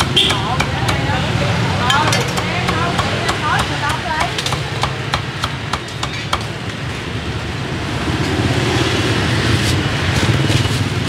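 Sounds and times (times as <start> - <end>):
street traffic passing: 0.0 - 11.0.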